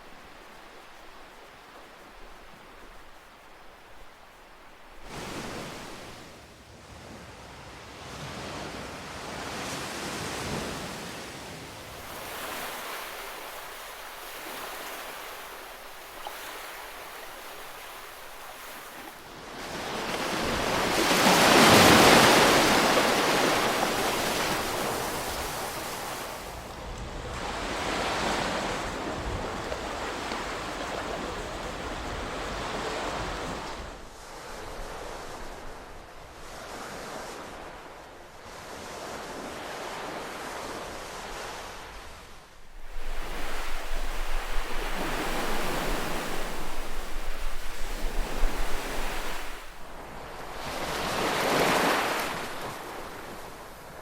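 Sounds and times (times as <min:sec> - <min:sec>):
ocean waves breaking: 0:00.0 - 0:06.4, 0:08.2 - 0:54.0.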